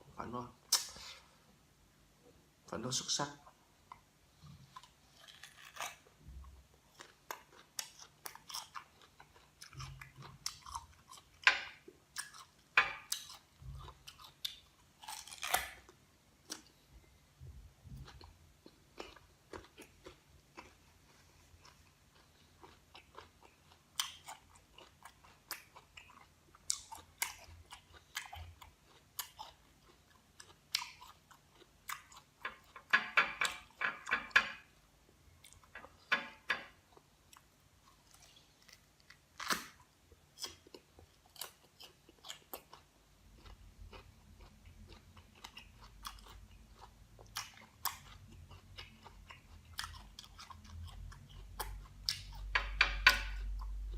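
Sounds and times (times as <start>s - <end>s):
guava crunching while chewed: 3.8s - 16.8s, 17.8s - 32.9s, 35.4s - 53.9s.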